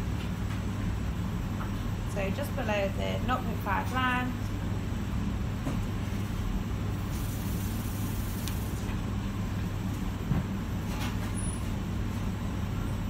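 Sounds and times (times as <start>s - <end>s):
extraction fan humming: 0.0s - 13.0s.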